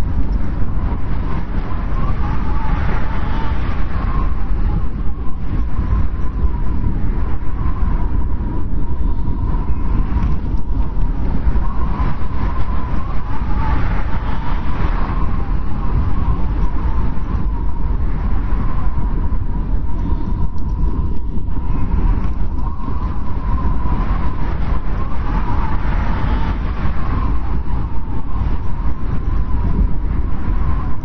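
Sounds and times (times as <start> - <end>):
faint wavering whistle: 0.0 - 31.0
strong wind rumbling: 0.0 - 31.0.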